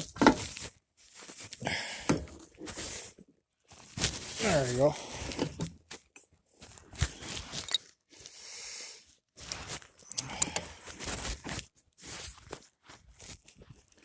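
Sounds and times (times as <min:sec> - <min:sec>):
crunching and scraping handling noises: 0:00.0 - 0:08.4, 0:09.2 - 0:14.0.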